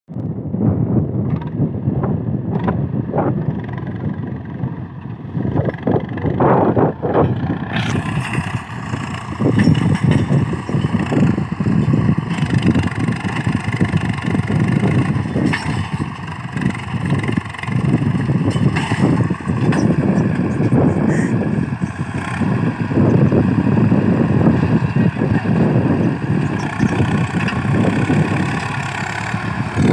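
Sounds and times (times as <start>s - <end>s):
tractor diesel engine running hard: 0.3s - 29.9s.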